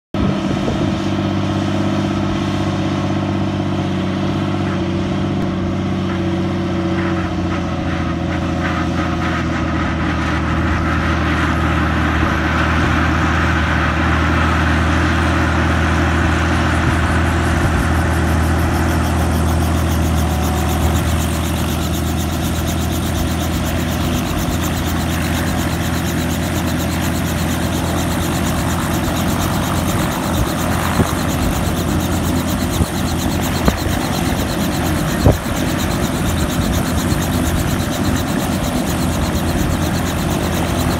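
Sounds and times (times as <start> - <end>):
helicopter engine and rotor drone: 0.1 - 40.9.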